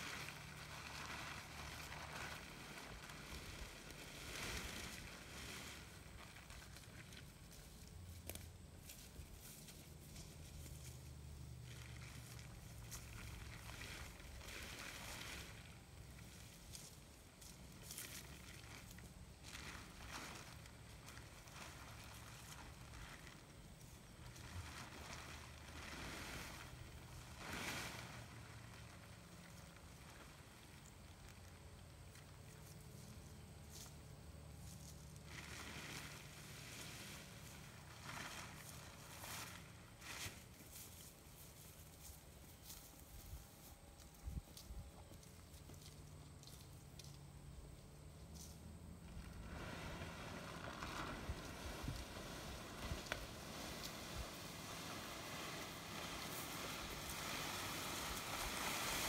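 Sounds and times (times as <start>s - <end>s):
plastic tarp rustling: 0.0s - 46.8s, 48.2s - 59.0s.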